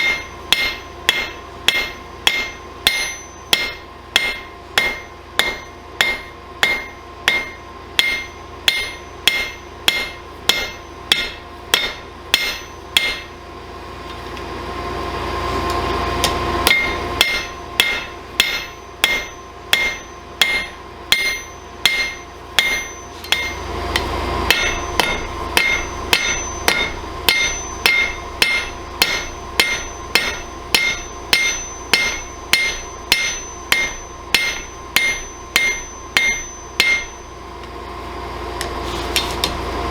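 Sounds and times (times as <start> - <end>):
hammer blows on anvil: 0.0 - 13.4, 16.2 - 37.4.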